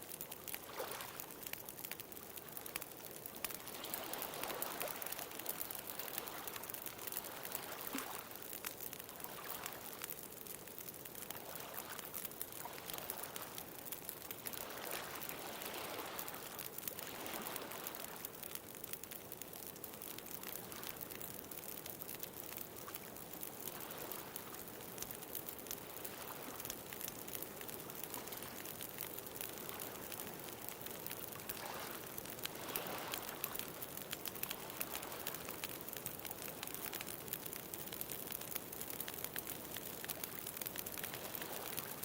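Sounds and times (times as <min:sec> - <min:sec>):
bonfire crackling: 0:00.0 - 0:42.0.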